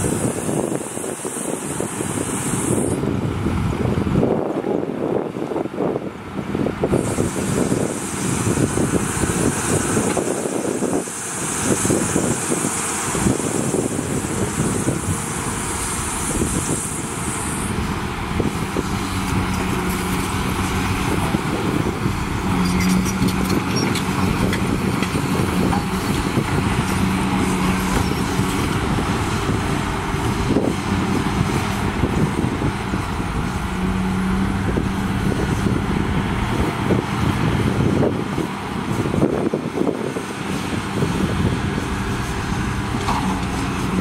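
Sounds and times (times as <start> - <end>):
dump truck engine running: 0.0 - 44.0
excavator diesel engine running: 0.0 - 44.0
low hydraulic hum: 6.9 - 44.0.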